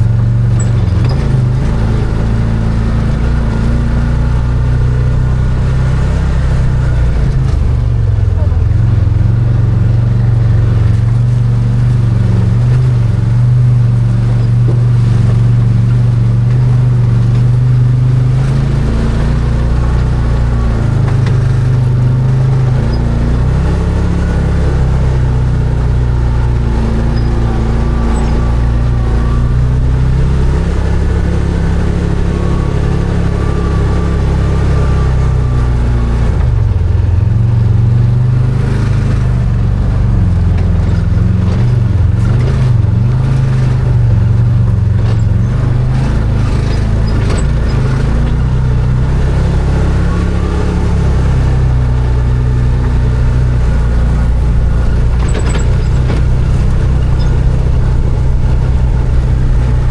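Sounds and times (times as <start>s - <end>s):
side-by-side engine running: 0.0s - 59.9s.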